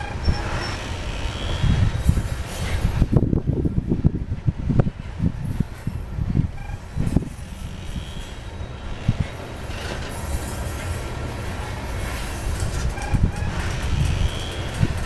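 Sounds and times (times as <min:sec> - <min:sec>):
steel wheels rumbling on rail: 0:00.0 - 0:15.0
train cars clanking: 0:00.0 - 0:15.0.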